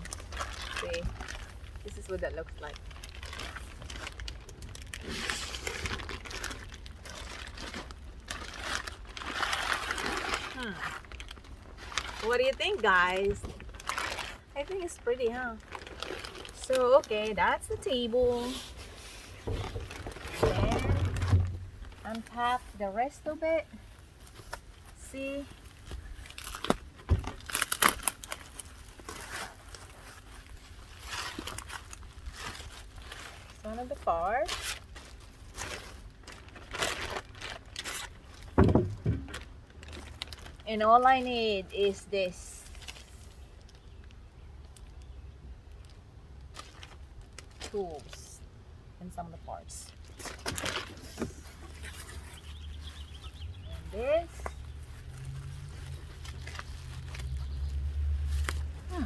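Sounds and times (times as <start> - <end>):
packaging rustling and crinkling: 0.0 - 48.4, 49.9 - 59.0.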